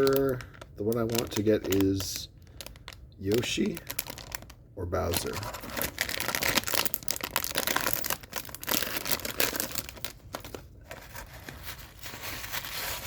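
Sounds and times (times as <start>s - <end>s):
plastic packaging crinkling and tearing: 0.0s - 13.0s.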